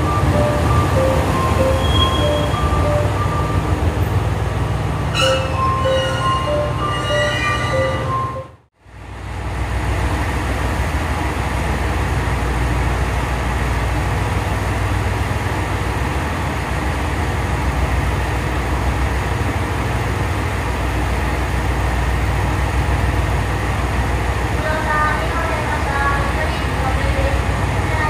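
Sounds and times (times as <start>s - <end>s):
diesel train engine hum: 0.0s - 28.0s.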